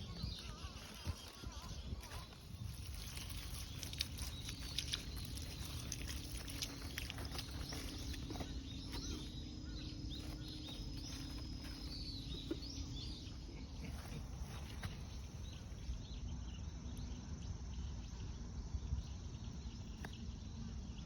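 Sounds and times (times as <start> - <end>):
wind rumble on microphone: 0.0 - 17.2
birds chirping: 0.0 - 21.0.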